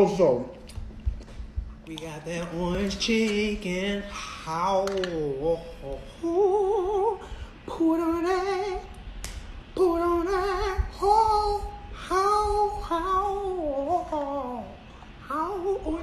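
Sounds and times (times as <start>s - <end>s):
high voice singing with vibrato: 1.9s - 9.0s, 9.8s - 16.0s.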